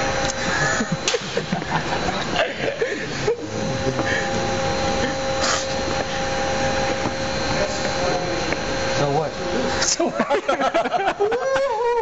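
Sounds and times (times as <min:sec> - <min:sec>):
constant hum tones: 0:00.0 - 0:12.0
machine shop drone: 0:00.0 - 0:12.0.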